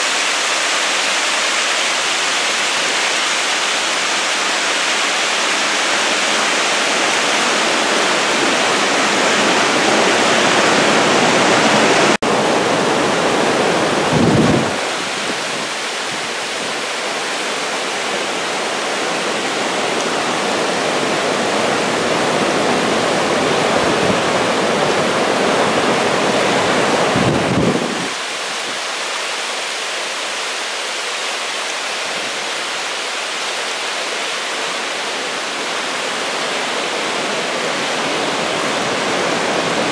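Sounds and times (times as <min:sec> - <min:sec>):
whitewater roar of stream: 0:00.0 - 0:39.9.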